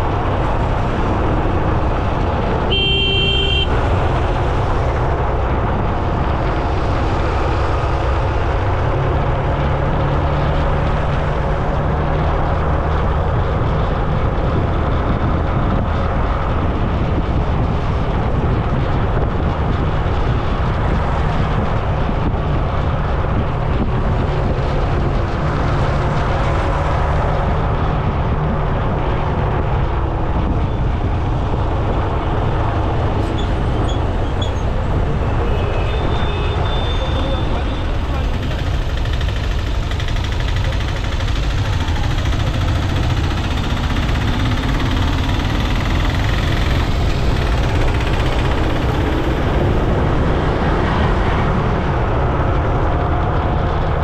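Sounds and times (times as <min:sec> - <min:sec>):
wind rush on microphone: 0:00.0 - 0:02.7, 0:03.7 - 0:54.0
road noise: 0:00.0 - 0:54.0.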